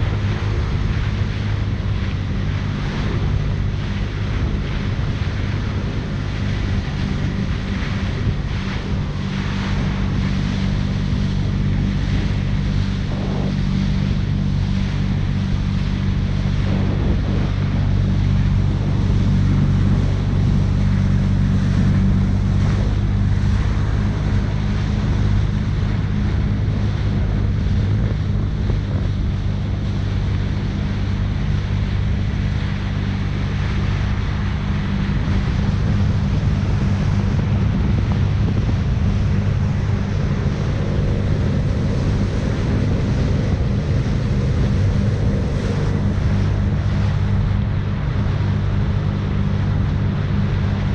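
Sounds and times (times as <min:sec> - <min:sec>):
jet ski engine running: 0:00.0 - 0:50.9
water rushing: 0:00.0 - 0:50.9
wind buffeting microphone: 0:00.0 - 0:50.9.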